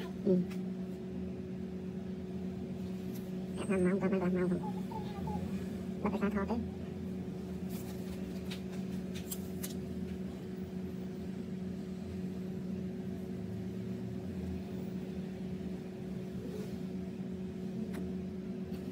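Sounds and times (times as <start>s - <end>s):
machine hum: 0.0s - 18.9s.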